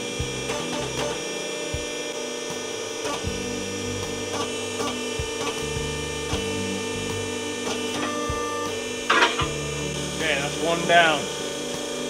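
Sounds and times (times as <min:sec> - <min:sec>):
hydraulic machine humming: 0:00.0 - 0:12.0.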